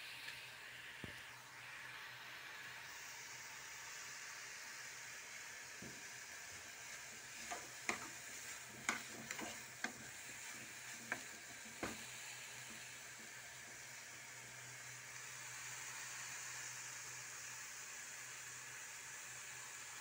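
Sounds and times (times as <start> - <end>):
food sizzling hiss: 0.0 - 20.0.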